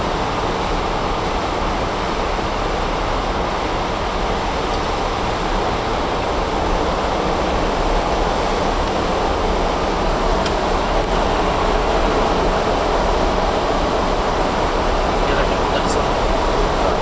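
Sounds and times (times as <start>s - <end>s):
aircraft engine noise: 0.0s - 17.0s.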